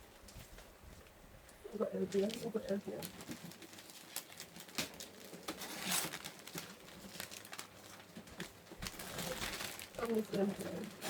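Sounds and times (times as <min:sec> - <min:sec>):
wrapping paper crinkling and tearing: 0:02.1 - 0:11.0.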